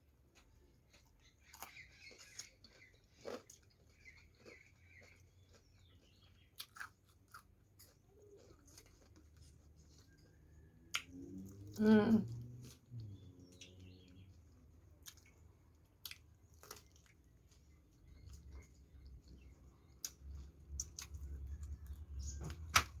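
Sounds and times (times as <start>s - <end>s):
person chewing: 0.2s - 22.1s.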